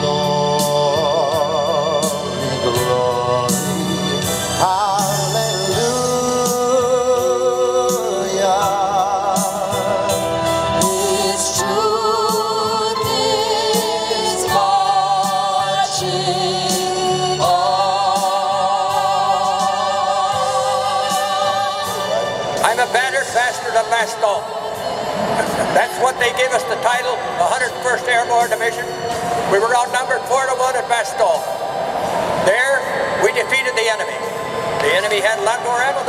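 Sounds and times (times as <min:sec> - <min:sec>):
vocal trio singing in harmony: 0:00.0 - 0:36.0.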